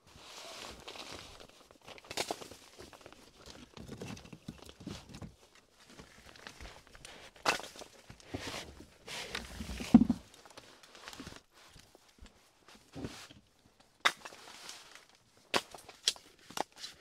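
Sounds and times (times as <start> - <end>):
rustling and crunching: 0.1 - 17.0.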